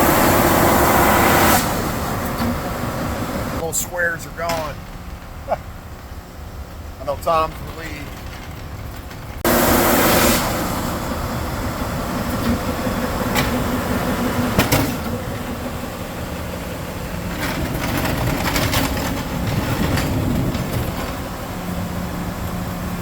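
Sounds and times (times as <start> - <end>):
woodworking machine running: 0.0 - 23.0.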